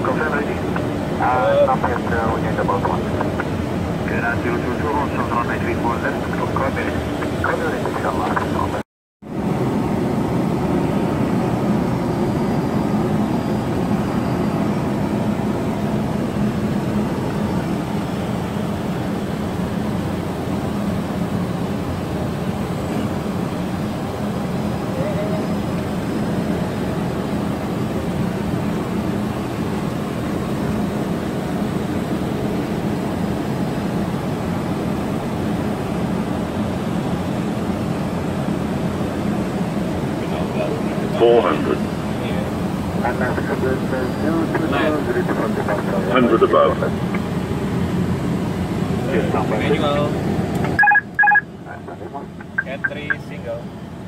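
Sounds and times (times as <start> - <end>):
aircraft cockpit air rush and engine hum: 0.0 - 54.0.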